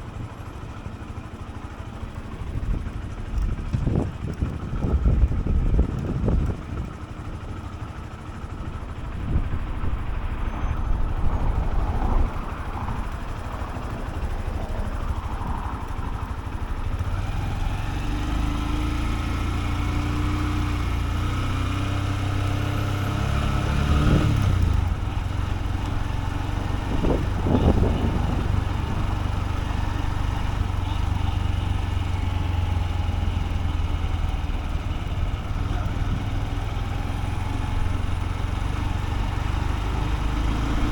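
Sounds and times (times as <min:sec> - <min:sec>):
motorcycle engine running: 0:00.0 - 0:40.9
wind buffeting microphone: 0:02.2 - 0:07.2, 0:08.5 - 0:17.9, 0:20.9 - 0:40.9.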